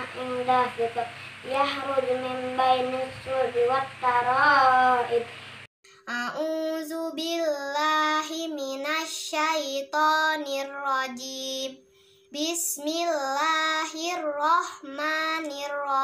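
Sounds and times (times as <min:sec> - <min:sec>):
girl chanting recitation: 0:00.0 - 0:16.0.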